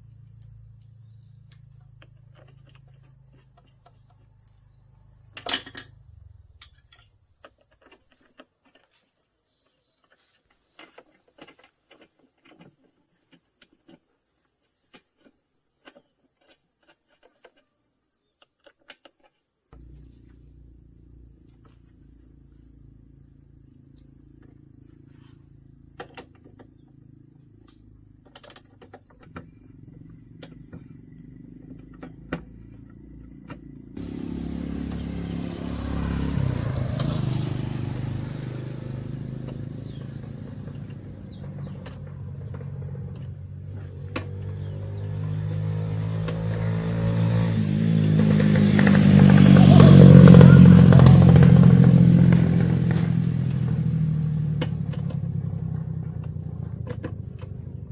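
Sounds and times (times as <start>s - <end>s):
insects chirring: 0.0s - 57.9s.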